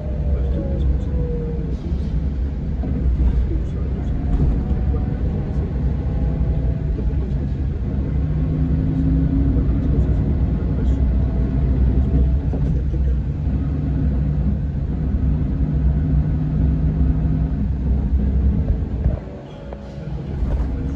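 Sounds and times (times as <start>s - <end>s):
diesel bus engine rumbling: 0.0s - 20.9s.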